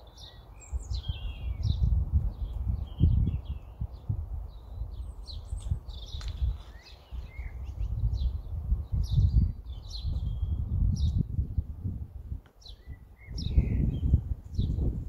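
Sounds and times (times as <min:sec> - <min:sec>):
small birds chirping and singing: 0:00.0 - 0:15.0.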